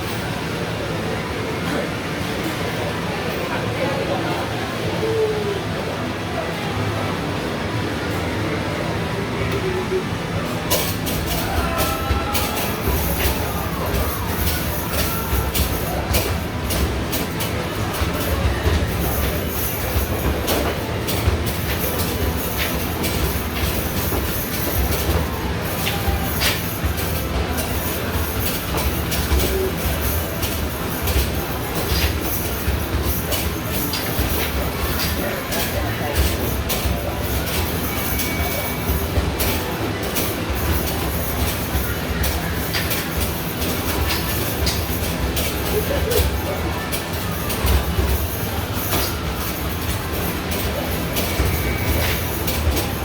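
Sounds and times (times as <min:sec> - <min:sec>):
basketballs rattling along ball return: 0:10.4 - 0:53.0.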